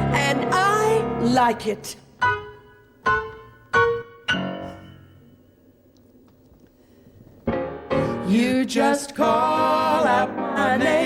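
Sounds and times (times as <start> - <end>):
piano chords ringing: 0.0 - 5.8, 7.4 - 11.0.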